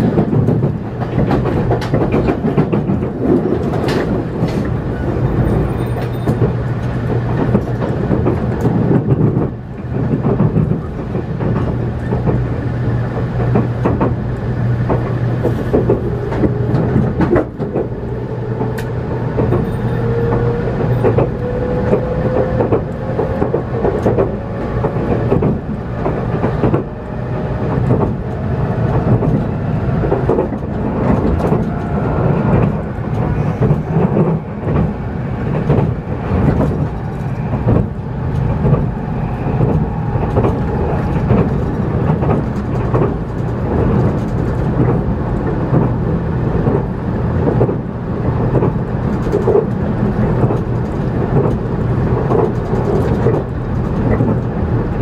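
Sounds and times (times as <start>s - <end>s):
clicks over rail joints: 0.0s - 55.0s
train wheels rumbling on rail: 0.0s - 55.0s.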